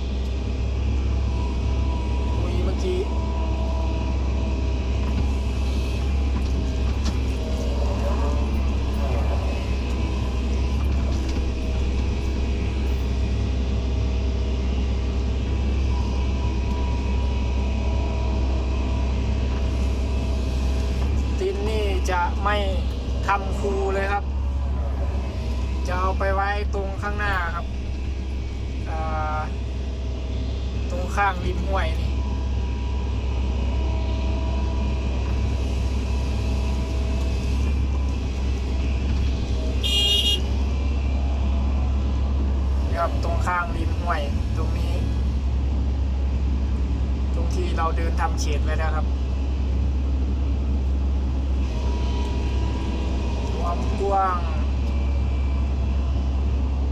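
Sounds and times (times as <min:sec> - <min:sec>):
diesel machinery droning: 0:00.0 - 0:56.9
faint high whine: 0:00.0 - 0:56.9.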